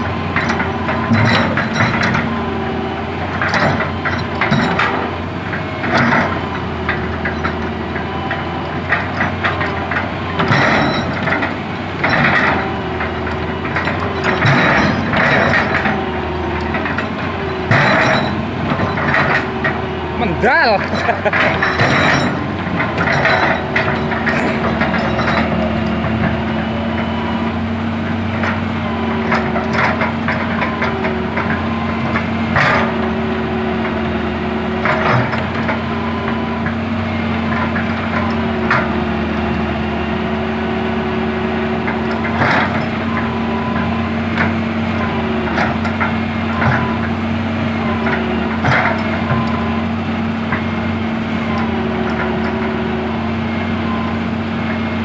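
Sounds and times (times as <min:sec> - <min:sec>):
hydraulic excavator running: 0:00.0 - 0:55.0
hydraulics whining: 0:00.0 - 0:55.0.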